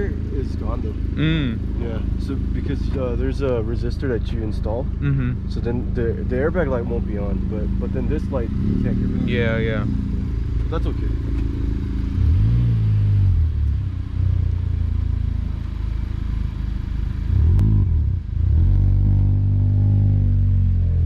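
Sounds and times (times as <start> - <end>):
car engine and exhaust: 0.0 - 21.0.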